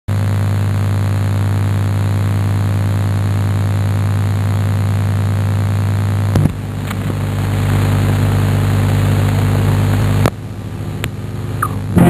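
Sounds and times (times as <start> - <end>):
low hum: 0.3 - 12.0.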